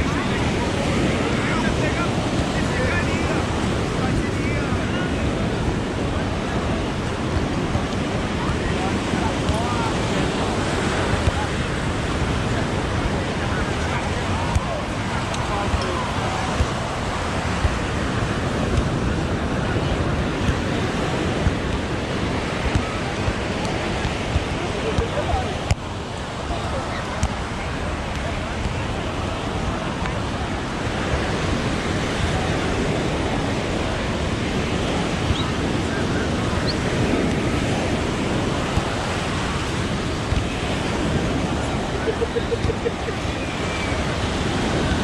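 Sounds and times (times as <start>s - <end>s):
ocean surf on beach: 0.0s - 45.0s
wind buffeting microphone: 0.0s - 45.0s.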